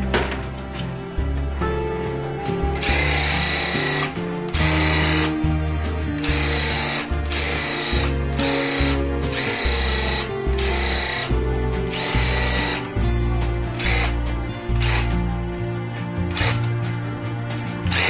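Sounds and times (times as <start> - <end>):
background music with beat and bass: 0.0 - 18.0.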